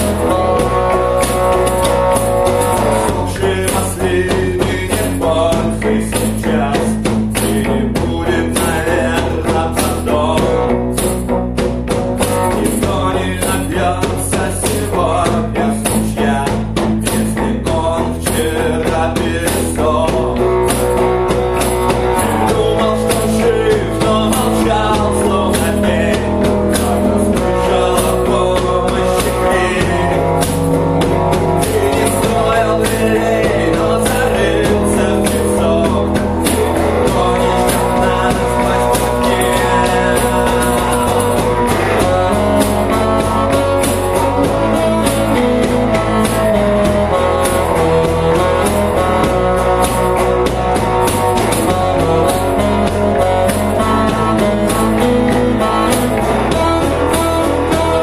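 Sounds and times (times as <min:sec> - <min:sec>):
bass guitar line: 0:00.0 - 0:58.0
cajon strikes: 0:00.0 - 0:58.0
strummed acoustic guitar: 0:00.0 - 0:58.0.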